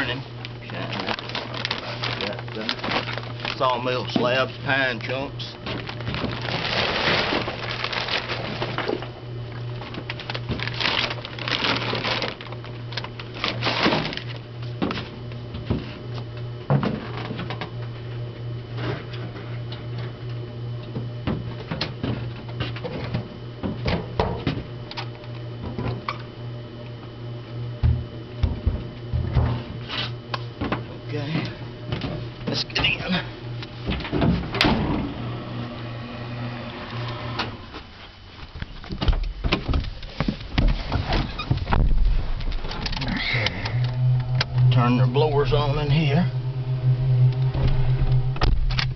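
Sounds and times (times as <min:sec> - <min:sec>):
electric blower hum: 0:00.0 - 0:38.0, 0:41.5 - 0:48.9.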